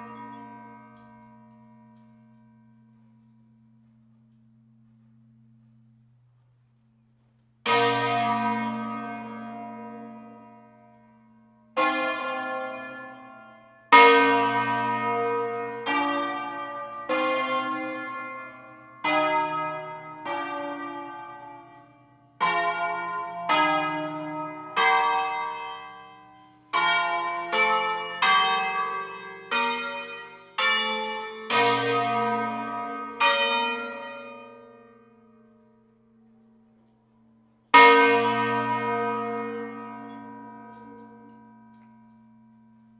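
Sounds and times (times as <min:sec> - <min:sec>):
church bells ringing a tune: 0:00.0 - 0:04.2, 0:07.6 - 0:42.9.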